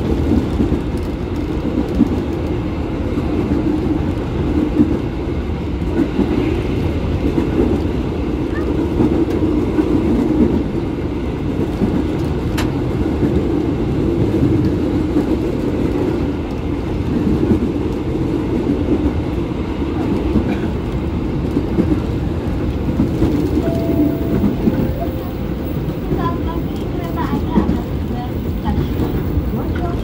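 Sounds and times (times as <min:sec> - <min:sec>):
train car rumbling on rails: 0:00.0 - 0:30.0.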